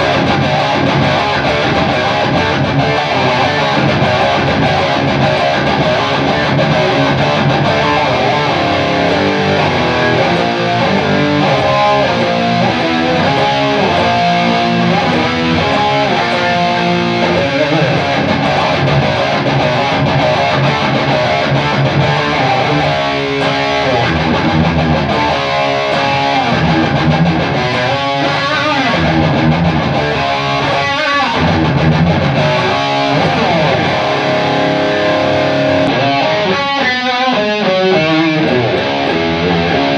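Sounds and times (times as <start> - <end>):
guitar strumming and picking: 0.0 - 39.9.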